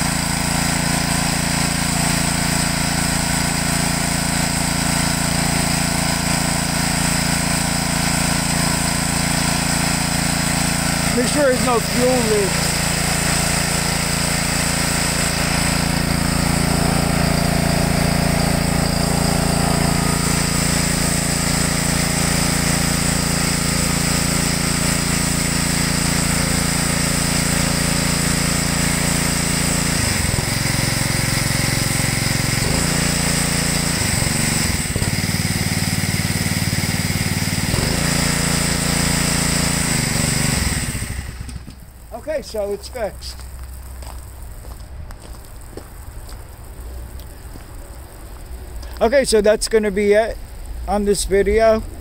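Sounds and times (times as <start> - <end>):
engine running under load: 0.0 - 52.0
high-pressure water jet hissing: 0.0 - 52.0.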